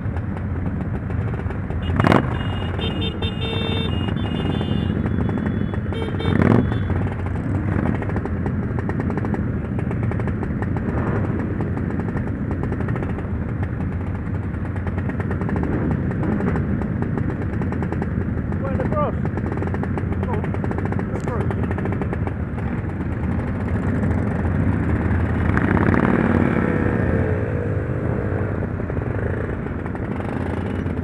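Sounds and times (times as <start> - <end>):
motorcycle engine running: 0.0 - 31.0
road noise: 0.0 - 31.0.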